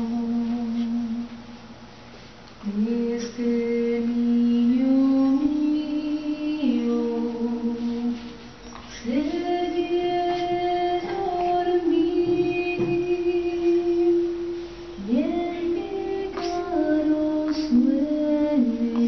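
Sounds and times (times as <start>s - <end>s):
slow song with woman singing: 0.0s - 19.0s.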